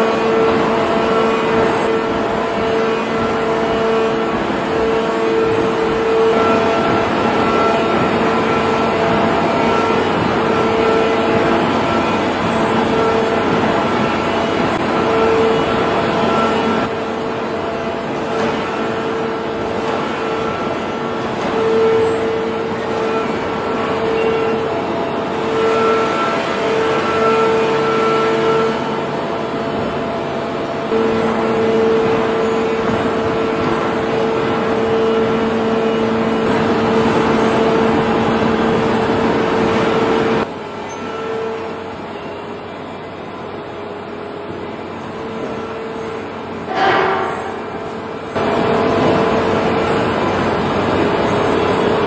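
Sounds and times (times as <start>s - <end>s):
hydraulic press humming: 0.0s - 52.0s.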